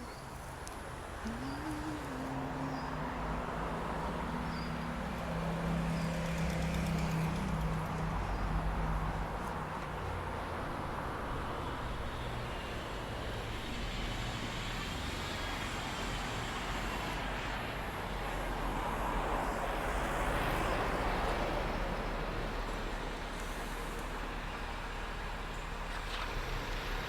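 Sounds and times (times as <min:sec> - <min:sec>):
road traffic passing: 0:00.1 - 0:27.0.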